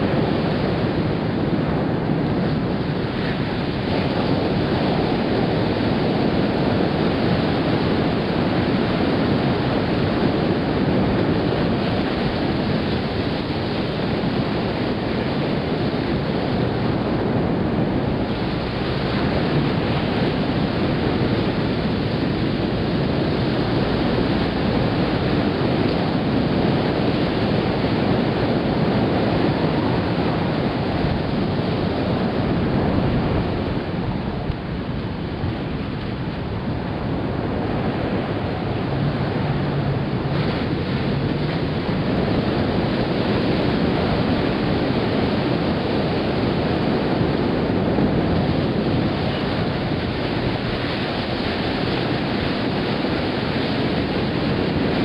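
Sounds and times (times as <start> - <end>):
ocean surf washing onto beach: 0.0 - 55.0
wind buffeting microphone: 0.0 - 55.0.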